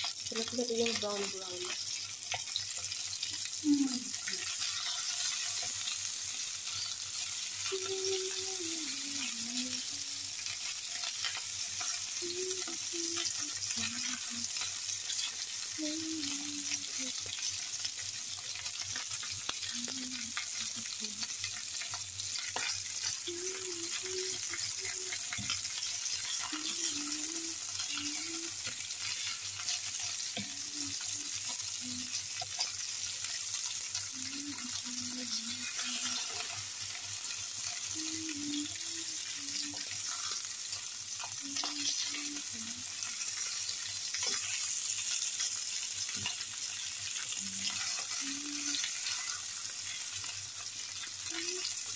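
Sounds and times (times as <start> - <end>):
meat sizzling in a frying pan: 0.0 - 51.9.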